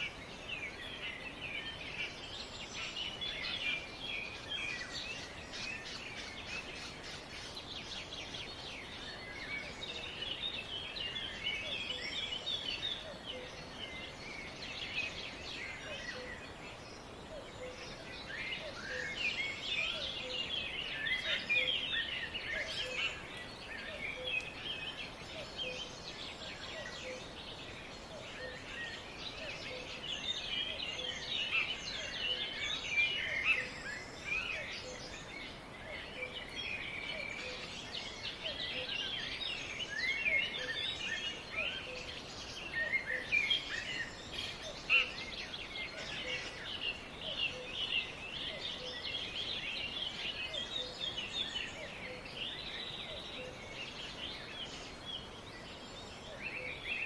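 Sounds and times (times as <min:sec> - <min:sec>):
songbirds chirping and trilling: 0:00.0 - 0:57.0
steady background hiss: 0:00.0 - 0:57.0.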